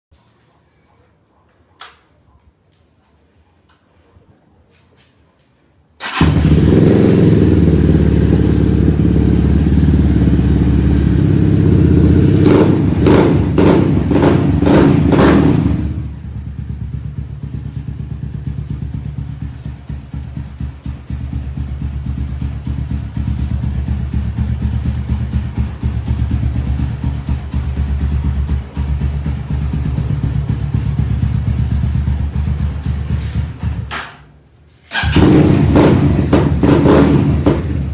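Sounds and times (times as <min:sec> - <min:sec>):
motorcycle engine running: 0:06.0 - 0:33.9, 0:34.9 - 0:37.9.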